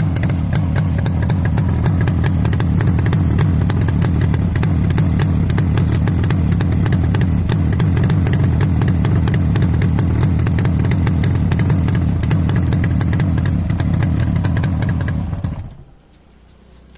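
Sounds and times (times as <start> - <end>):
motorcycle engine idling: 0.0 - 16.1.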